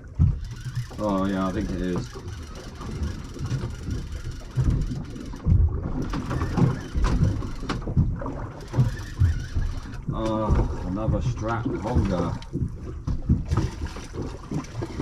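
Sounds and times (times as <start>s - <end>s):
low thumps and knocks: 0.0s - 15.0s
wind buffeting microphone: 0.0s - 15.0s.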